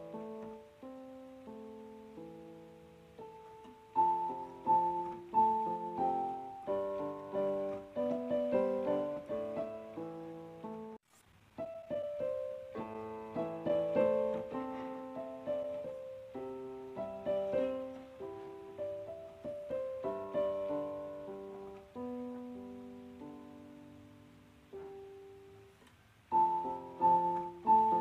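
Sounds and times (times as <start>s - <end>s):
slow piano music: 0.0s - 11.0s, 11.6s - 28.0s.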